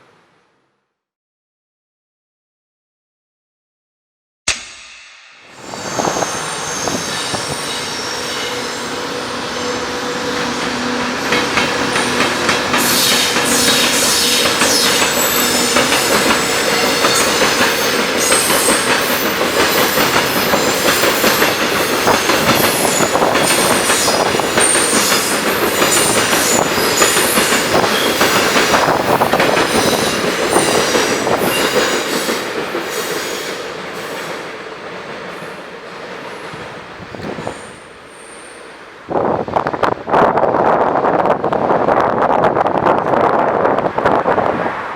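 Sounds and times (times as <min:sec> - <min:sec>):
freight train passing: 0:05.0 - 0:44.9.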